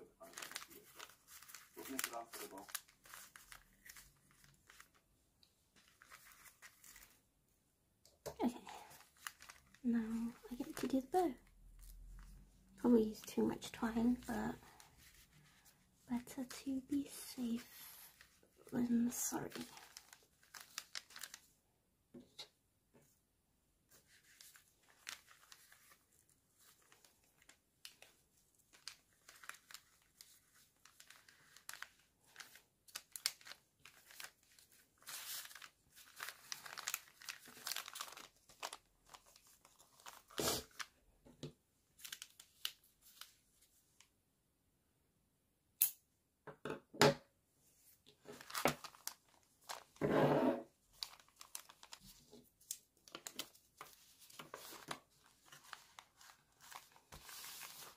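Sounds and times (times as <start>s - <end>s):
wrapping paper rustling and crinkling: 0.0s - 7.3s, 8.4s - 21.6s, 23.9s - 41.1s, 41.9s - 44.1s, 47.7s - 50.0s, 50.6s - 57.9s.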